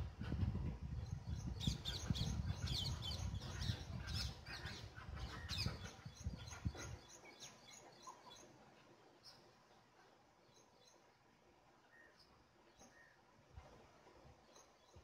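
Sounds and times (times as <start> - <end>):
songbird chirping: 1.1 - 13.5.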